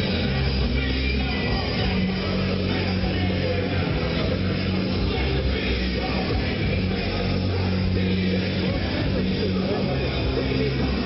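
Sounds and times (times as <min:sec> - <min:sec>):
held bass notes: 0:00.0 - 0:11.0
loud rock music: 0:00.0 - 0:11.0
person singing: 0:00.0 - 0:11.0.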